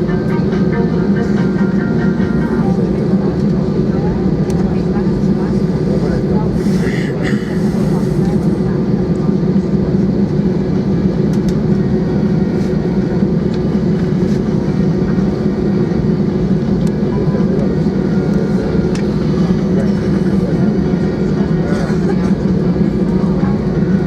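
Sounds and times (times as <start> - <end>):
jet engines droning: 0.0 - 24.0
low cabin rumble: 0.0 - 24.0.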